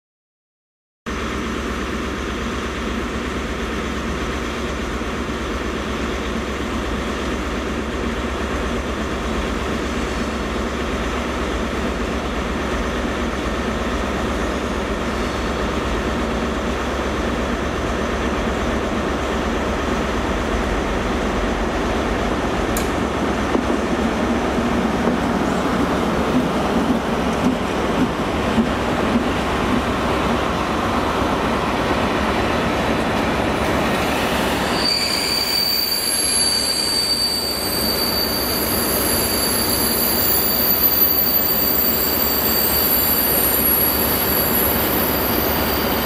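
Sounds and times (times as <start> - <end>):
diesel freight train running: 1.1 - 46.0.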